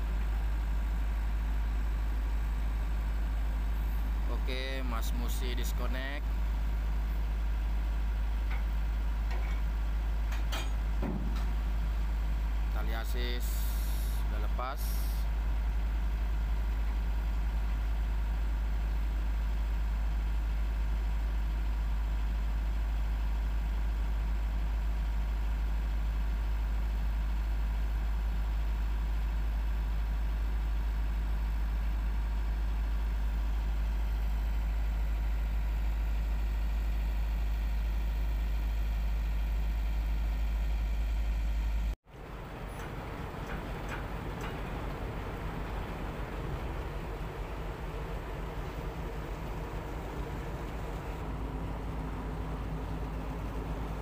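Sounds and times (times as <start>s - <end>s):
diesel boat engine droning: 0.0s - 54.0s.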